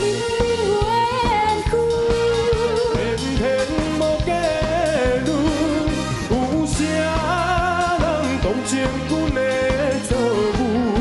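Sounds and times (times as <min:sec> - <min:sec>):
man and woman singing duet: 0:00.0 - 0:11.0
pop backing music with drum beat: 0:00.0 - 0:11.0.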